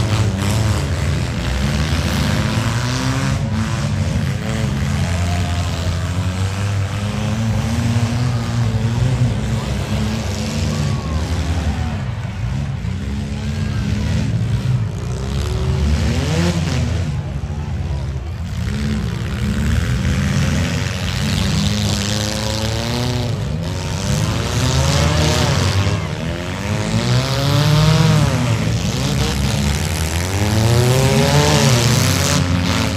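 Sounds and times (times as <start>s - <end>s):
car engines revving: 0.0s - 32.9s.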